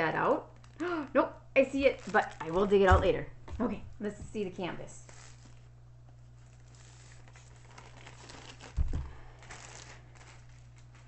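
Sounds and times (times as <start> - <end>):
wrapping crinkling: 0.0 - 3.2, 4.9 - 11.0.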